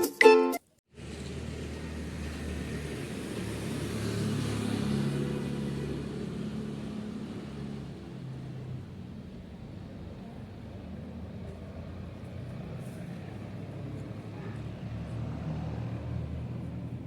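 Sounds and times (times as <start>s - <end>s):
engine humming: 0.9s - 17.0s.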